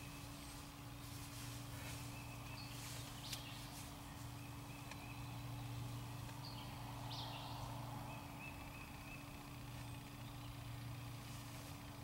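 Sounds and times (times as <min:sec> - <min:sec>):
distant songbirds: 0:00.0 - 0:12.0
steady low hum: 0:00.0 - 0:12.0.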